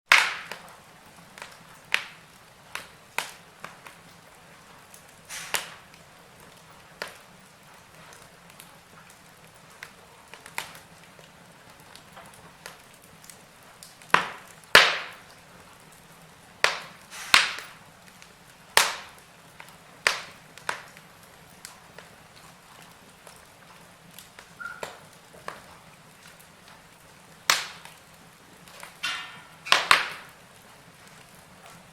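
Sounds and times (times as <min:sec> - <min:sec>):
faint steady hiss: 0:00.1 - 0:31.9
wood fire crackling: 0:00.1 - 0:31.9.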